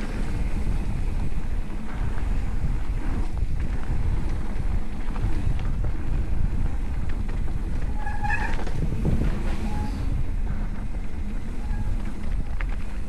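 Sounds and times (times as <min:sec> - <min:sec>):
bike rolling on rough dirt trail: 0:00.0 - 0:13.0
wind buffeting microphone: 0:00.0 - 0:13.0.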